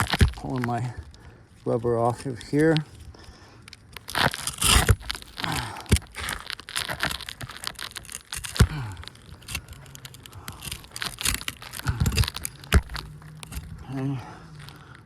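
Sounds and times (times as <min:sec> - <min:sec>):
rubber crinkling and tearing: 0:00.0 - 0:15.0.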